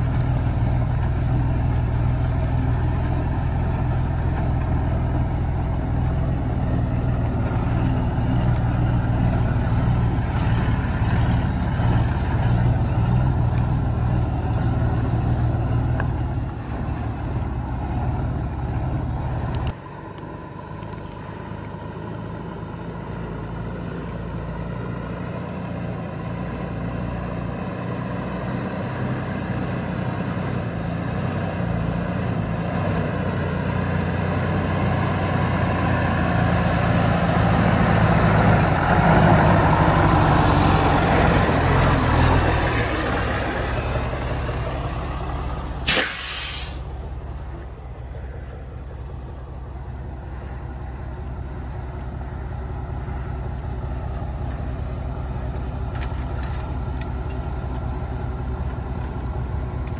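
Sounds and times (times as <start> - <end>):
heavy truck engine running: 0.0 - 59.9
quieter engine: 0.0 - 59.9.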